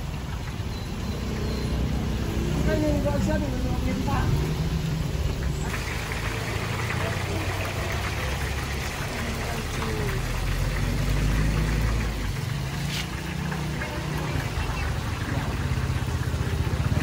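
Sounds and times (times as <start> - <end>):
batter sizzling in hot oil: 0.0 - 17.0.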